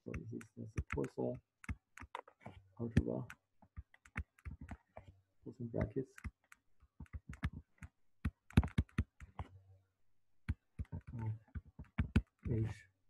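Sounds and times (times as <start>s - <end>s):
stylus tapping on pen tablet: 0.0s - 5.1s, 5.8s - 9.5s, 10.4s - 12.6s.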